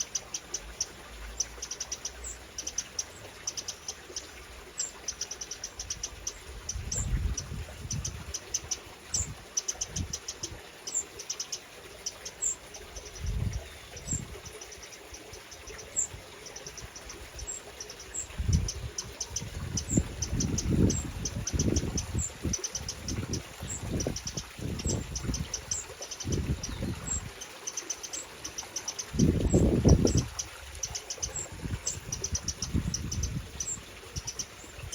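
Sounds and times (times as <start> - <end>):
wrens ticking calls: 0.0 - 34.9
high bird chirp: 4.8 - 34.9.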